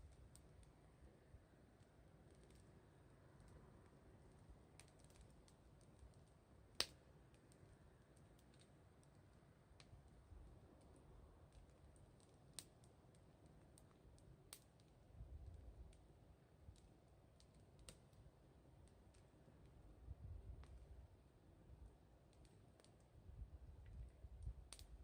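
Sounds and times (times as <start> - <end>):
faint campfire crackling: 0.0 - 25.0.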